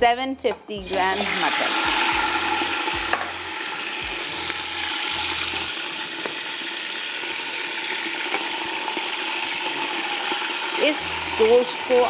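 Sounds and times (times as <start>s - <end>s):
meat sizzling in oil: 0.8s - 12.0s.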